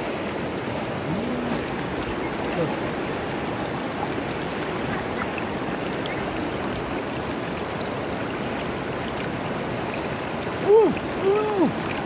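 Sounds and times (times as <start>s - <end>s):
river water over rocks: 0.0s - 12.0s.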